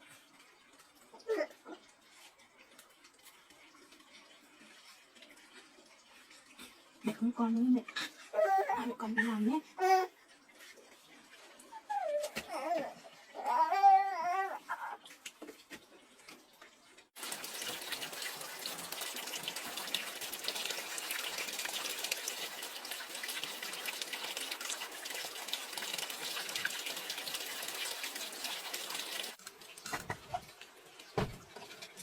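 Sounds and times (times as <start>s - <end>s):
running water: 0.0s - 32.0s.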